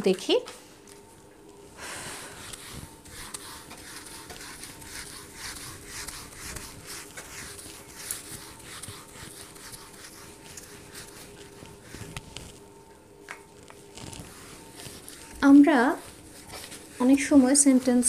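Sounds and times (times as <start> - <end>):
faint steady hum: 0.0 - 18.0
scratching and rubbing strokes: 2.3 - 12.8, 13.6 - 18.0.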